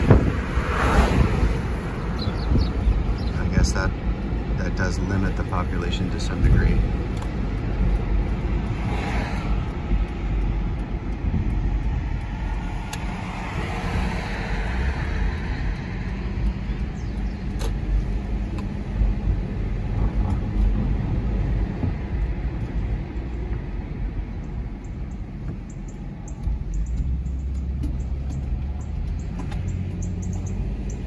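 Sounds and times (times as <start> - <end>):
car cabin road rumble: 0.0 - 31.0.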